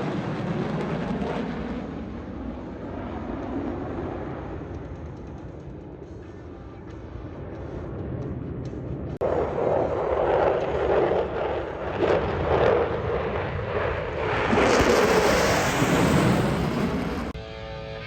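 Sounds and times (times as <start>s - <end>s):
fighter jets flying past: 0.0s - 17.4s.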